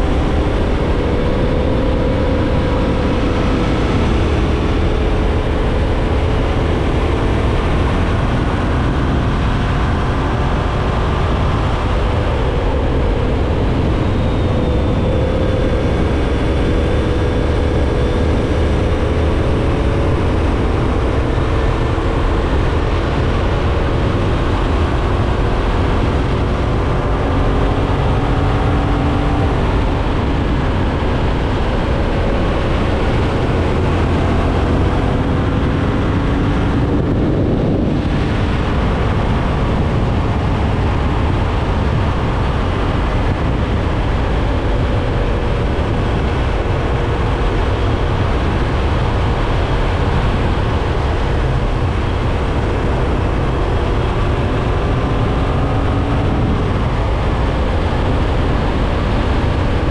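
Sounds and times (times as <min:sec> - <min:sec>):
heavy wind noise: 0:00.0 - 0:59.9.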